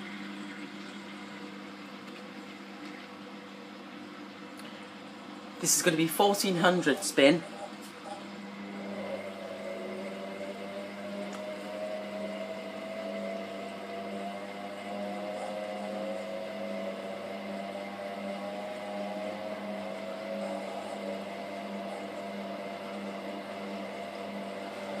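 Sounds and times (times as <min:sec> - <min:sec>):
low hum: 0:00.0 - 0:25.0
washing machine motor whine: 0:00.0 - 0:25.0.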